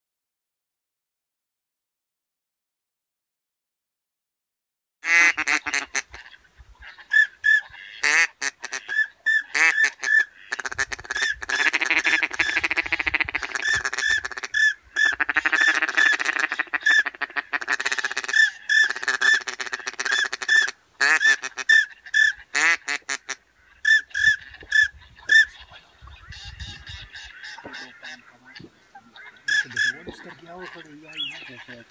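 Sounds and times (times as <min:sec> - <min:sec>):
ducks quacking: 0:05.0 - 0:31.9.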